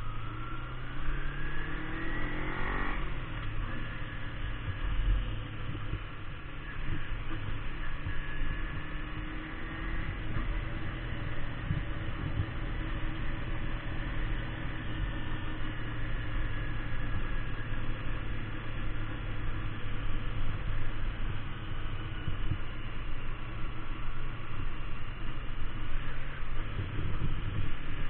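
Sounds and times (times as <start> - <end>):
motorcycle engine running: 0.0 - 28.0
unsteady low rumble: 0.0 - 28.0.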